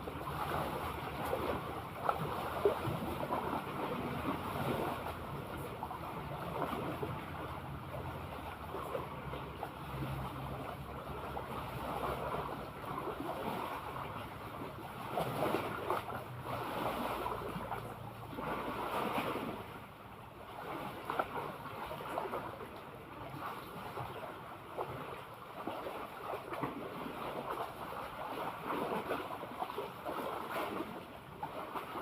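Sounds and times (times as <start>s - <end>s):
sea water splashing: 0.0s - 32.0s.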